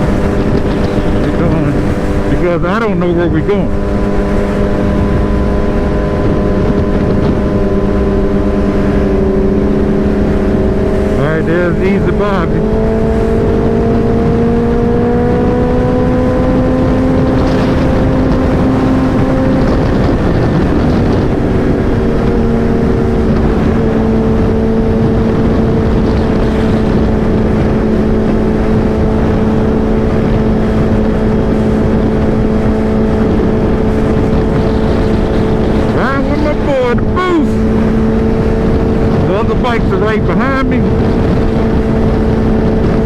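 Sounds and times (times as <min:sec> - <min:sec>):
motorcycle engine cruising: 0:00.0 - 0:43.0
wind rushing over microphone: 0:00.0 - 0:43.0.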